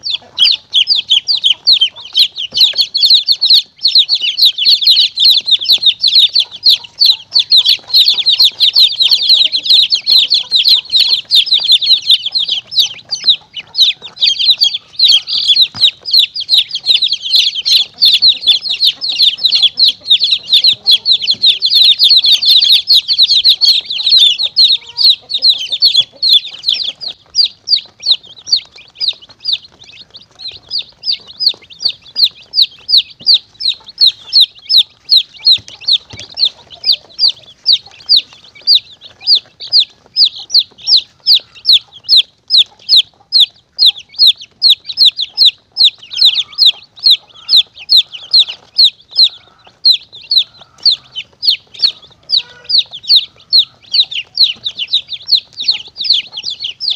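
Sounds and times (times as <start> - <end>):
baby chicks peeping: 0.0 - 56.9.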